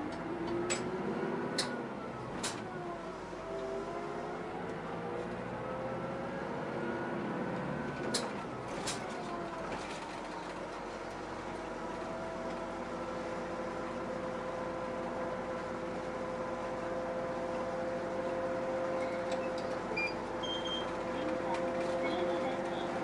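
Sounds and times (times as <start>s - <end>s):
bus engine hum with whine: 0.0s - 23.0s
road noise: 0.0s - 23.0s.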